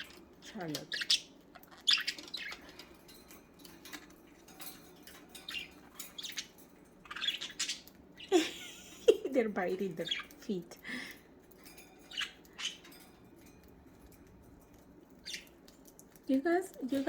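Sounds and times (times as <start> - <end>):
budgies chirping and squawking: 0.0 - 17.0.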